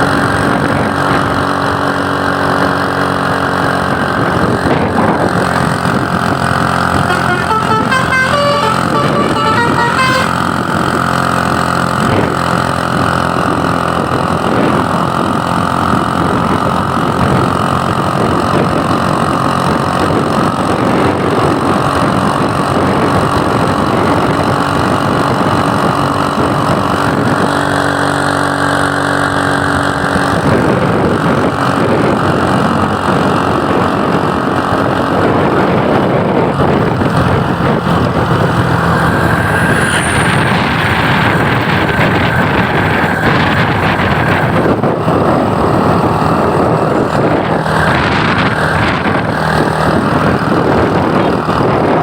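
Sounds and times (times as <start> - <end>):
road noise: 0.0 - 52.0
vehicle engine running: 0.0 - 52.0.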